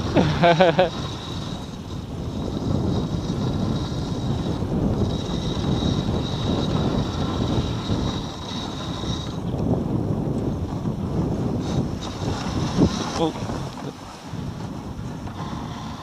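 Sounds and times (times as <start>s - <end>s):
sled runners rushing over snow: 0.0s - 16.0s
wind on microphone: 0.0s - 16.0s.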